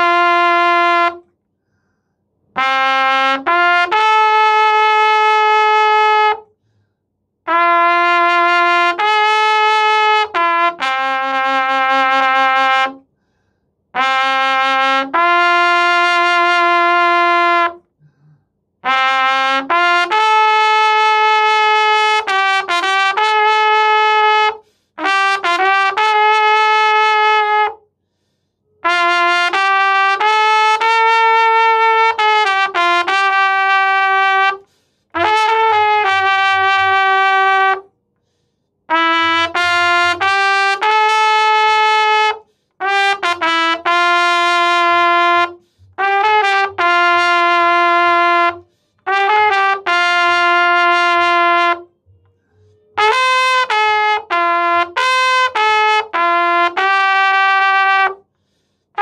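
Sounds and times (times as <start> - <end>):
trumpet playing long held notes: 0.0 - 1.3, 2.6 - 6.5, 7.5 - 13.1, 14.0 - 17.9, 18.8 - 27.8, 28.7 - 37.9, 38.8 - 58.3.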